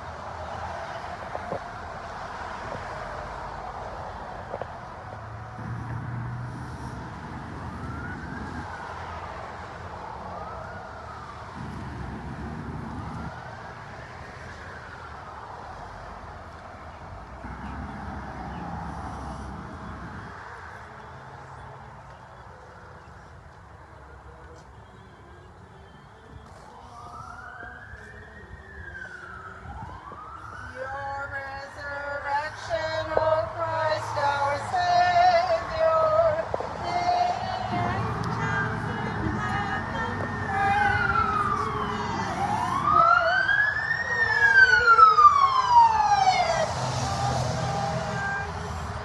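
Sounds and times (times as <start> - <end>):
distant siren wailing: 0.0 - 21.8, 25.3 - 49.0
outdoor background noise: 0.0 - 49.0.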